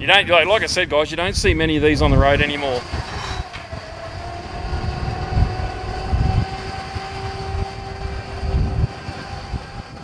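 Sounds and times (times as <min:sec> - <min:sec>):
truck engine rumble: 0:00.0 - 0:10.0
hydraulic pump whine: 0:01.4 - 0:10.0.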